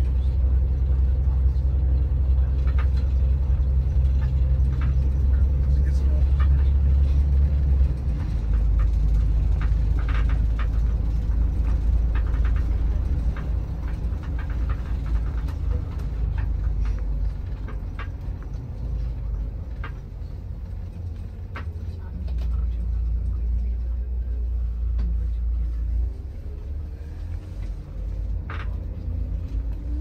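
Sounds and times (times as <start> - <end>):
bus engine rumble: 0.0 - 30.0
light rattles and clicks: 0.0 - 30.0.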